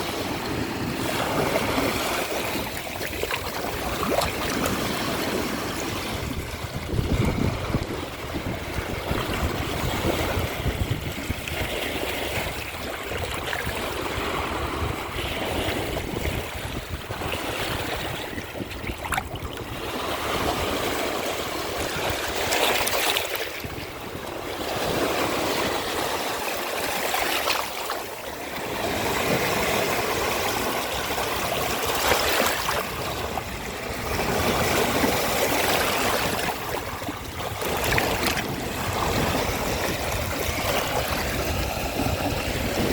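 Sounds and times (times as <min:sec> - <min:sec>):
ocean waves washing onto shore: 0:00.0 - 0:42.9.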